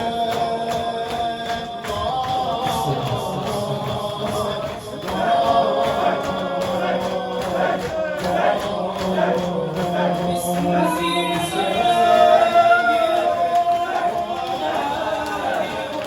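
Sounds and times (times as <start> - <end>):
regular beat: 0.0 - 15.6
voices chanting together: 0.0 - 16.0.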